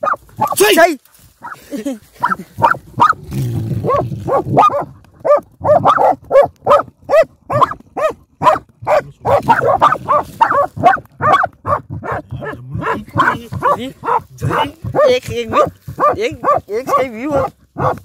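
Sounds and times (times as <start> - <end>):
dog barking rapidly: 0.0 - 1.6, 2.2 - 18.0
dog growling: 2.2 - 18.0.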